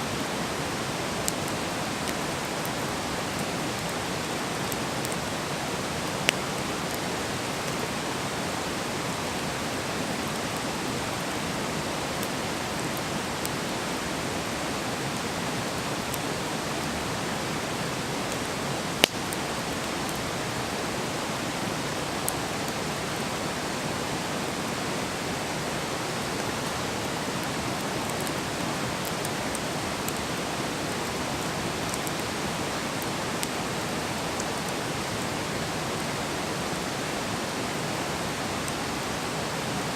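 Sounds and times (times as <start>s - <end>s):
wood fire hissing: 0.1s - 39.9s.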